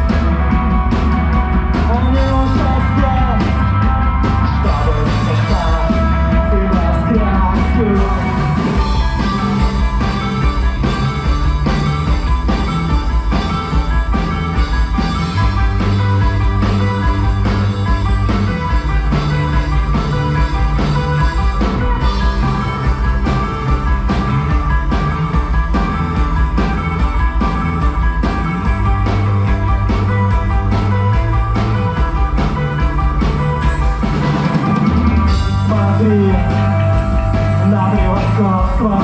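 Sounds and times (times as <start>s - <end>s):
rock band playing instrumental: 0.0s - 39.0s
steady drum beat: 0.0s - 39.0s.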